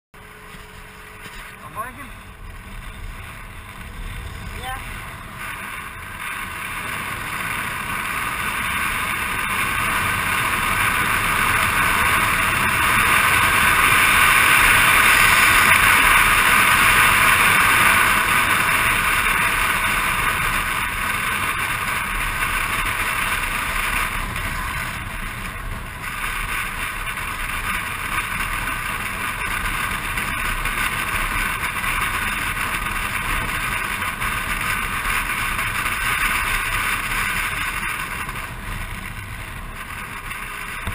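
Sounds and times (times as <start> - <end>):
motor scooter engine: 0.2 - 40.9
rushing wind and road noise: 0.2 - 40.9.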